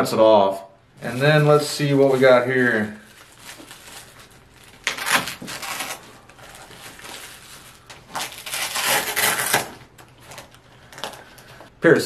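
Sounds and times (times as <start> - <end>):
plastic wrapping crinkling: 1.0 - 11.7.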